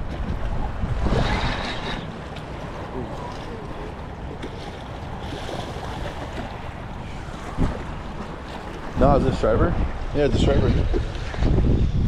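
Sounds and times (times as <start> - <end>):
small waves lapping: 0.0 - 11.7
wind buffeting microphone: 0.0 - 12.0.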